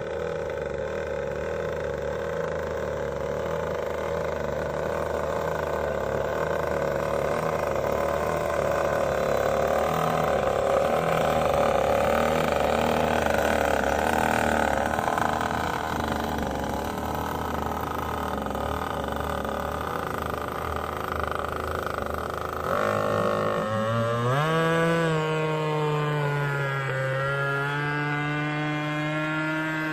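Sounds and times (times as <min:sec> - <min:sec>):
model boat engine running: 0:00.0 - 0:29.9.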